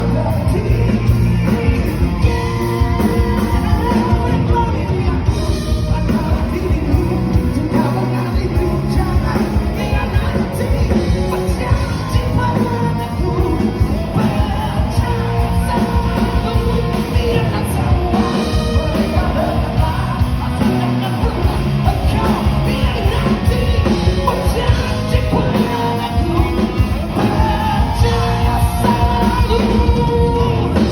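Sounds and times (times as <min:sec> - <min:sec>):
lead vocalist singing: 0:00.0 - 0:30.9
rock band playing live: 0:00.0 - 0:30.9.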